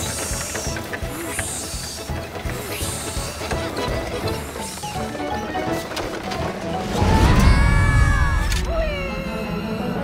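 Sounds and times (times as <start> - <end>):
cartoon background music: 0.0 - 10.0.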